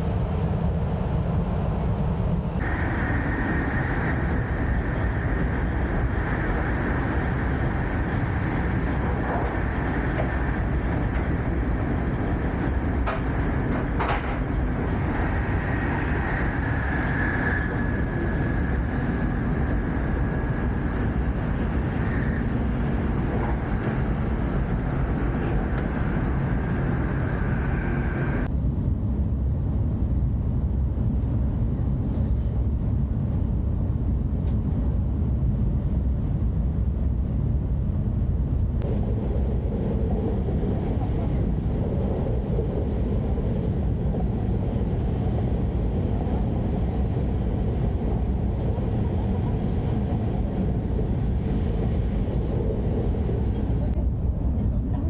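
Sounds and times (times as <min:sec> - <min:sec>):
high-speed train rumble: 0:00.0 - 0:55.0.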